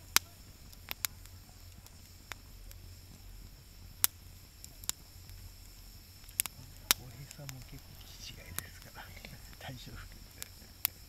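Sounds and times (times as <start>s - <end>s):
sharp pops from fire: 0.0s - 11.0s
wood fire crackling: 0.0s - 11.0s.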